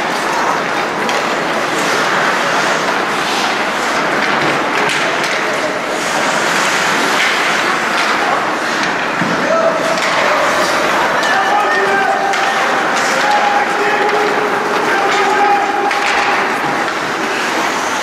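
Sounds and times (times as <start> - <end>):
hockey sticks and puck clicking: 0.0 - 18.0
skates scraping on ice: 0.0 - 18.0.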